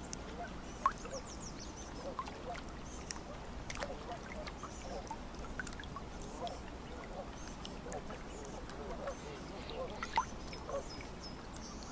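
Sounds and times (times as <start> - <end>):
low steady background hum: 0.0 - 11.9.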